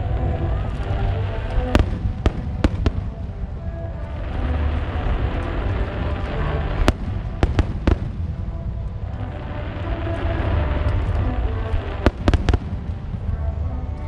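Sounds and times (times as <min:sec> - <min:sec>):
fireworks cracking: 0:00.0 - 0:13.6.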